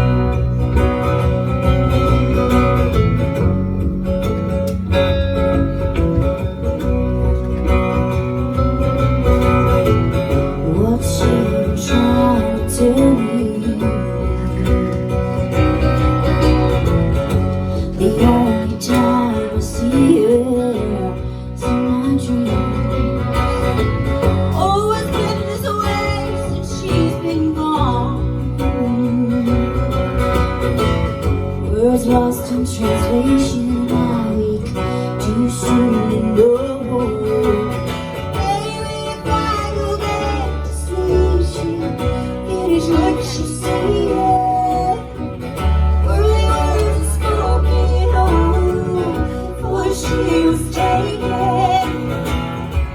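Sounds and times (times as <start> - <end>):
live country band playing: 0.0 - 52.9.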